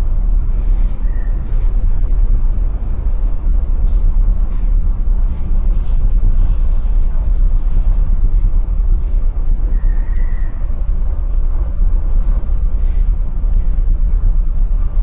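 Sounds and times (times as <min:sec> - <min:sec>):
rough sea against ship hull: 0:00.0 - 0:15.0
wind buffeting microphone: 0:00.0 - 0:15.0.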